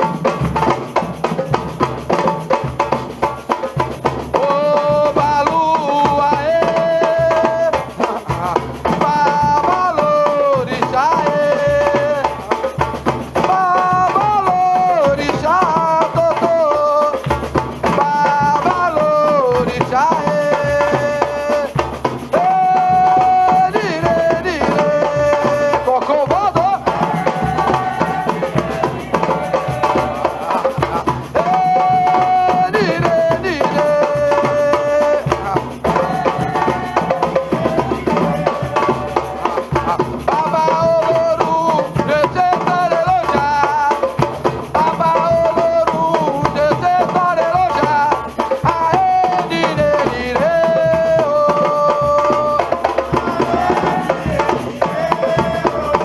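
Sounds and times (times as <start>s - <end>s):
drum and percussion groove: 0.0s - 56.0s.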